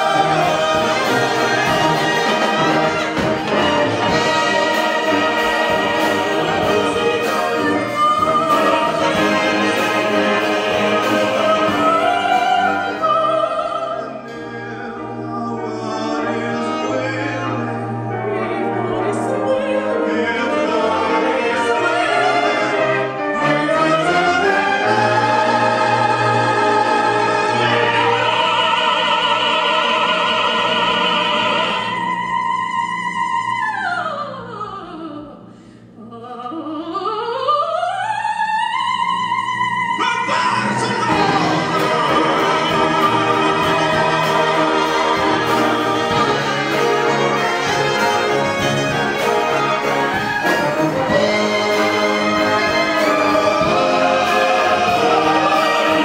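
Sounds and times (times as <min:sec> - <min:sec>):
brass band playing: 0:00.0 - 0:32.1, 0:40.4 - 0:56.0
choir singing: 0:00.0 - 0:35.4, 0:36.0 - 0:56.0
operatic singing: 0:00.0 - 0:56.0.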